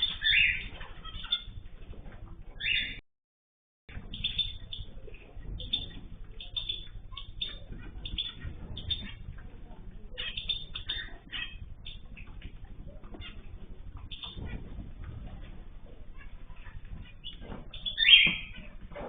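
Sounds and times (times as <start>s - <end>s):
cage birds chirping: 0.0s - 3.0s, 3.9s - 19.0s
low steady rumble: 0.0s - 3.0s, 3.9s - 19.0s.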